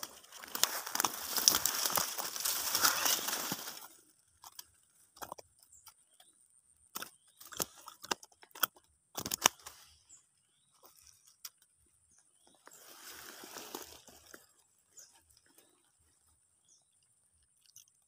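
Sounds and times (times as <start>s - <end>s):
clicks and crunches in dry grass: 0.0s - 18.0s.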